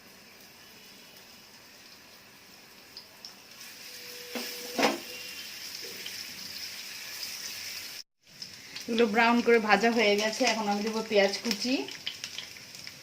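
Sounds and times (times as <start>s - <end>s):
garlic sizzling in hot oil: 0.0s - 13.0s.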